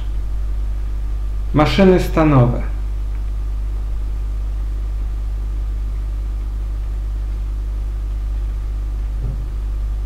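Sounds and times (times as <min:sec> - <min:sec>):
faint high buzz: 0:00.0 - 0:10.0
low electrical hum: 0:00.0 - 0:10.0.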